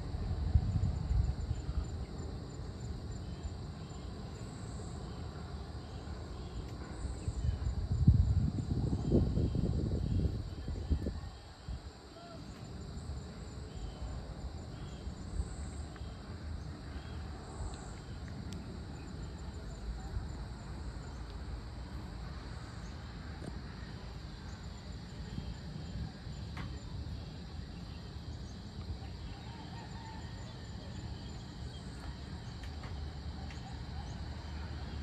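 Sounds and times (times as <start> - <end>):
faint insect chirps: 0.0 - 35.0
insects droning: 0.0 - 35.0.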